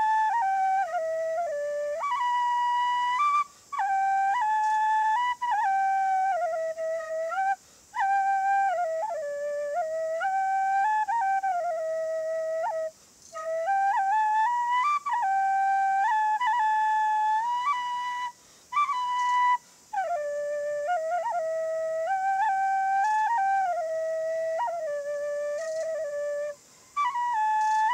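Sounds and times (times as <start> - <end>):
bamboo flute melody: 0.0 - 27.9.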